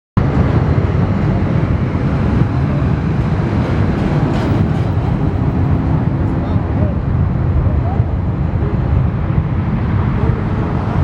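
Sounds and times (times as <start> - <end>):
jet engines deep rumble: 0.2 - 11.0.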